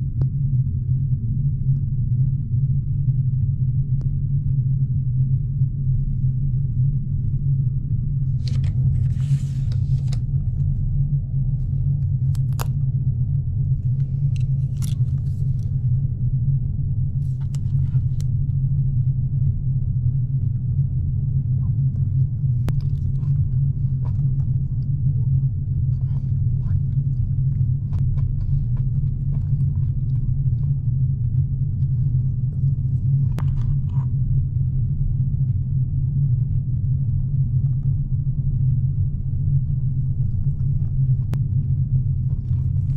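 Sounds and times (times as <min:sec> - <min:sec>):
low rumble of ship engines: 0:00.0 - 0:42.9.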